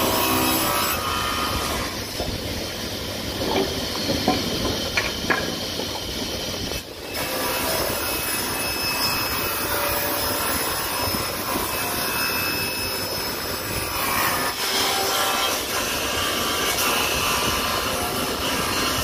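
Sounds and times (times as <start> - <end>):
table saw cutting wood: 0.0 - 19.0.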